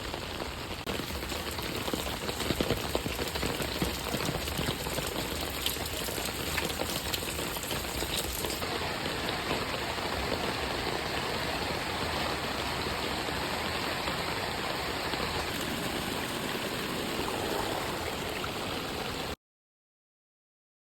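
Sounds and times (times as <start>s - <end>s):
crackling raindrops: 0.0s - 19.4s
running water rushing: 0.0s - 19.4s.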